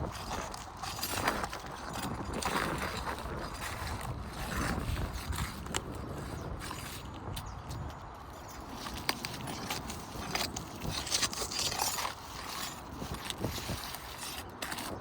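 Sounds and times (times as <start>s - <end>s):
tool scraping roof shingles: 0.0s - 15.0s.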